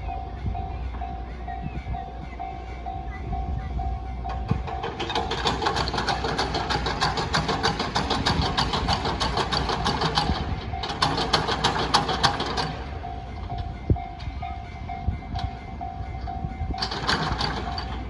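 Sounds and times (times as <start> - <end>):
level crossing warning bell: 0.0 - 18.0
train wheels clicking over rail joints: 0.0 - 18.0.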